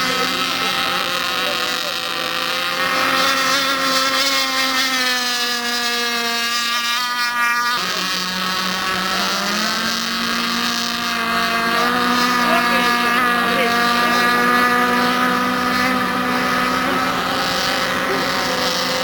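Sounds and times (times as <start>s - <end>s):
model boat engines whining: 0.0s - 19.0s.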